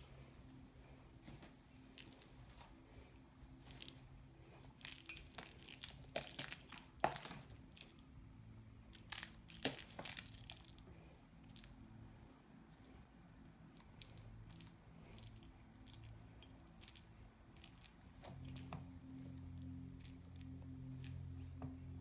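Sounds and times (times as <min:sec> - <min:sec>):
toy rustling: 0:01.2 - 0:08.1, 0:08.8 - 0:11.9, 0:13.6 - 0:21.7.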